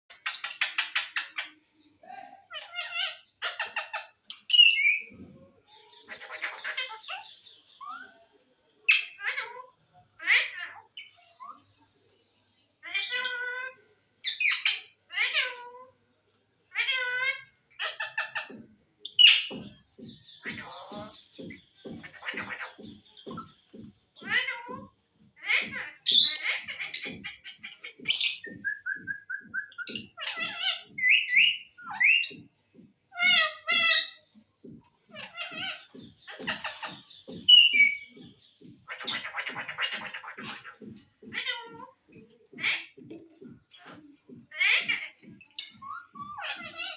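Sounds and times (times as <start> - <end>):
parrot calling: 0.1 - 5.1, 8.8 - 11.7, 12.8 - 15.8, 16.7 - 32.5, 33.1 - 46.9.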